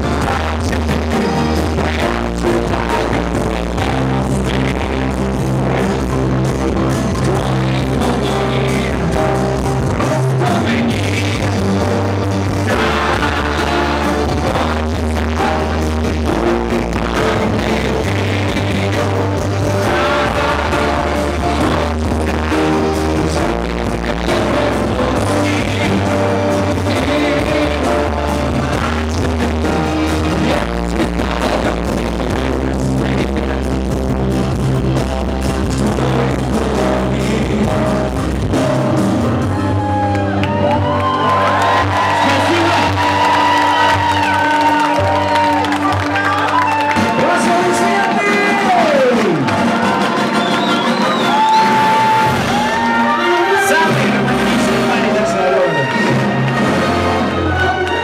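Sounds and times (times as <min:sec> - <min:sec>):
person singing: 0:00.0 - 0:34.1, 0:35.6 - 0:58.0
live rock band playing: 0:00.0 - 0:58.0.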